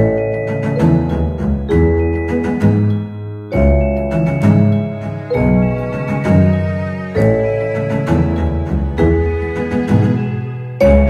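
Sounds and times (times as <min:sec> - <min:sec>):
ringing held music notes: 0:00.0 - 0:11.0.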